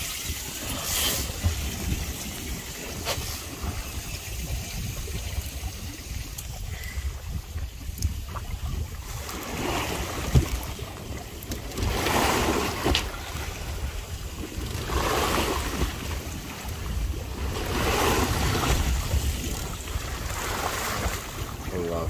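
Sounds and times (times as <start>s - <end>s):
waves washing against boat hull: 0.0s - 22.0s
wind buffeting microphone: 0.0s - 22.0s.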